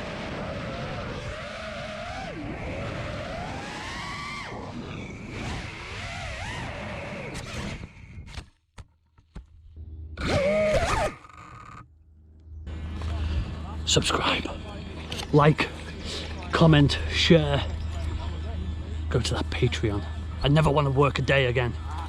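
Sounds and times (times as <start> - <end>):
quadcopter motors whining: 0.0 - 8.4, 9.9 - 22.0.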